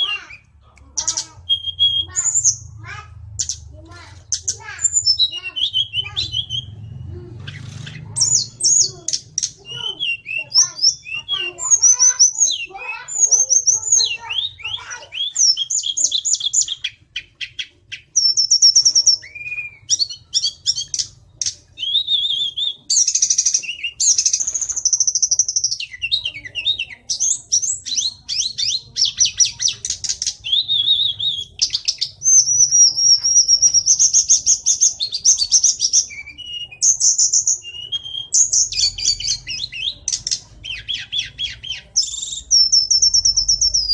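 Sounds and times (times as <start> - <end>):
bird singing trills: 0.0 - 43.9.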